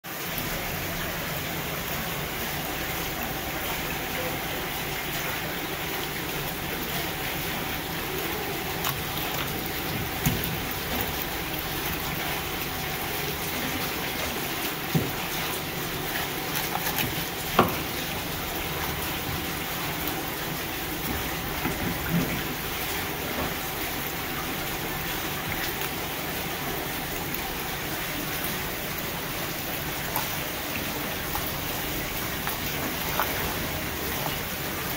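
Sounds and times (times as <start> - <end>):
running tap water: 0.1 - 34.9.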